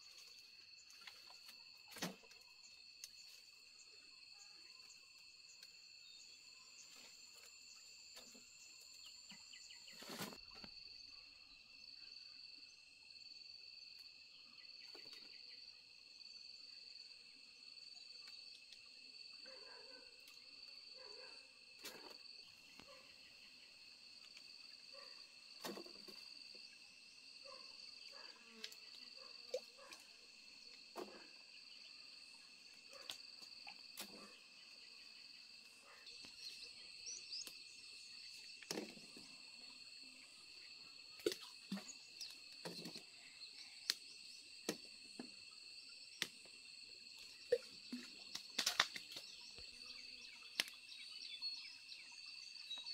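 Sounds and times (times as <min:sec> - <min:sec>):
insects calling: 0:00.0 - 0:52.9.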